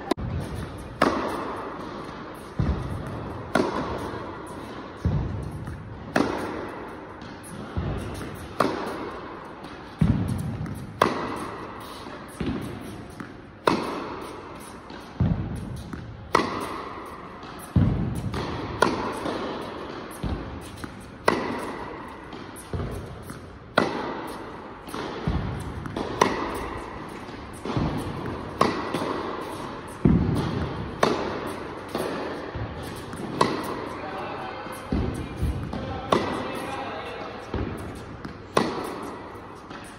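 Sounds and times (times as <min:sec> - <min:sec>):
tennis ball hits echoing: 0:00.1 - 0:39.9.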